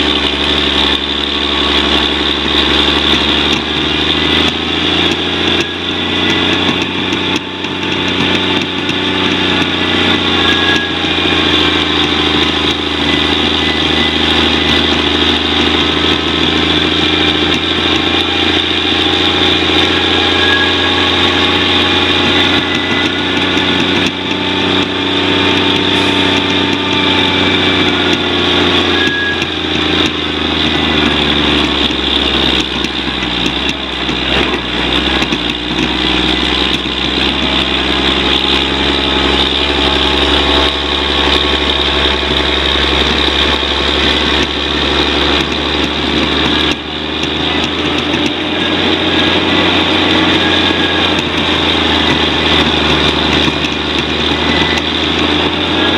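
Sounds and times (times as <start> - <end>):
truck diesel engine running: 0.0 - 55.9.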